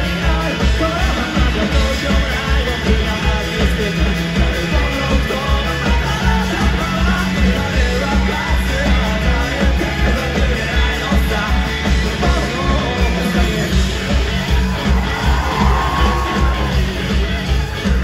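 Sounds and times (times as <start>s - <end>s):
fast drum beat: 0.0s - 18.0s
live rock band playing: 0.0s - 18.0s.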